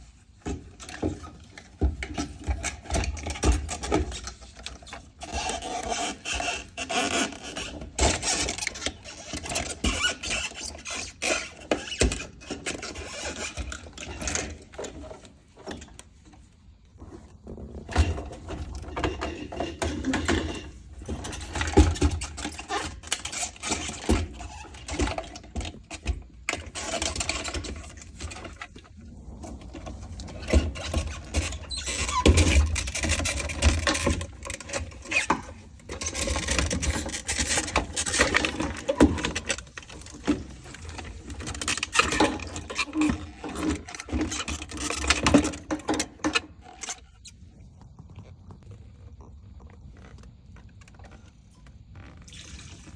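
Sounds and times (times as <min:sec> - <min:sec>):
tools and parts rattling: 0:00.4 - 0:47.3.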